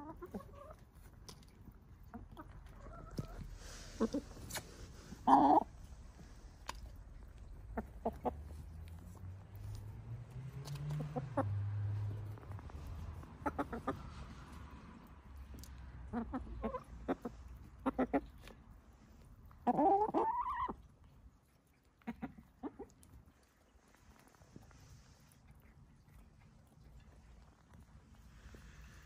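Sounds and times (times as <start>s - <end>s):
hens clucking softly: 0.0s - 9.0s, 10.6s - 11.6s, 12.2s - 29.0s.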